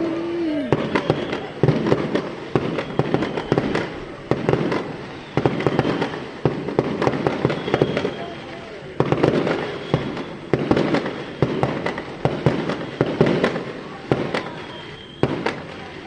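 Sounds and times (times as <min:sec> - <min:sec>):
fireworks popping and banging: 0:00.0 - 0:16.0.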